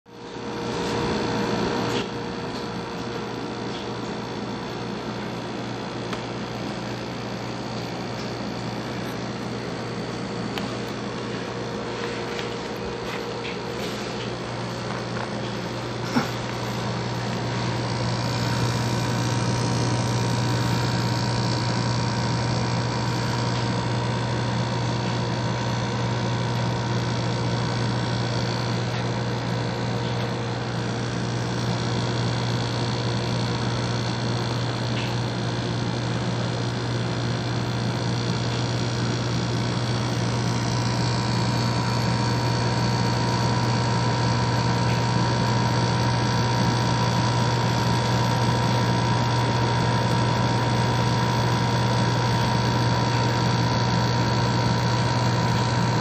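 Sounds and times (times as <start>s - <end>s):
appliance compressor humming: 0.1s - 56.0s
fan rushing: 0.2s - 56.0s.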